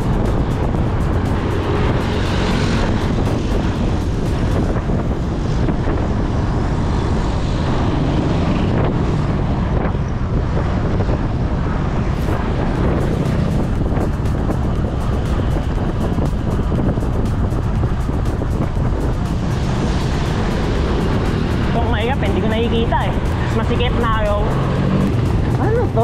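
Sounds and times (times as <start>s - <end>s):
road and traffic noise: 0.0s - 26.0s
wind rumble on microphone: 0.0s - 26.0s.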